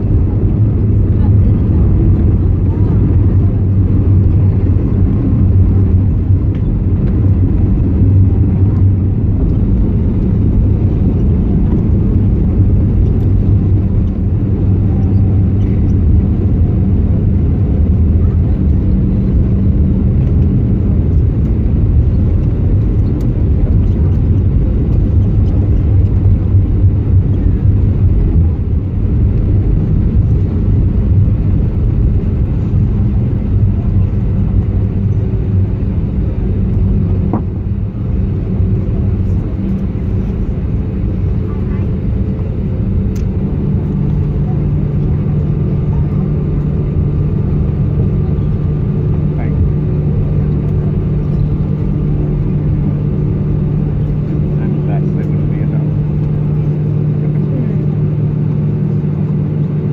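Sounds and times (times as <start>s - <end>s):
airplane cabin rumble: 0.0s - 59.9s
steady low hum: 0.0s - 59.9s.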